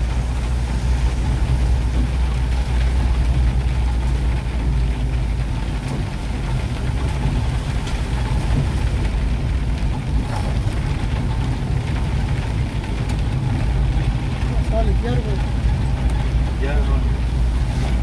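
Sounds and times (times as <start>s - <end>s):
car engine and tyres on wet road: 0.0s - 18.0s
rain ticking on windshield: 0.0s - 18.0s.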